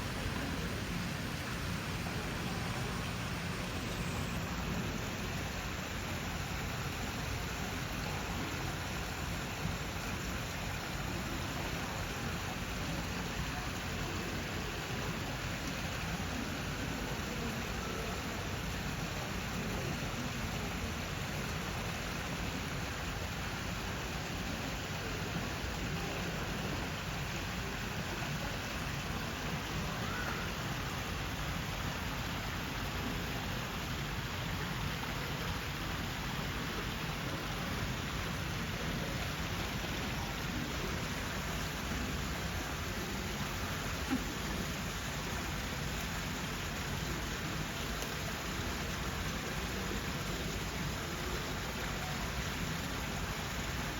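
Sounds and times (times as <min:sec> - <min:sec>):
rain-like hiss: 0:00.0 - 0:53.9.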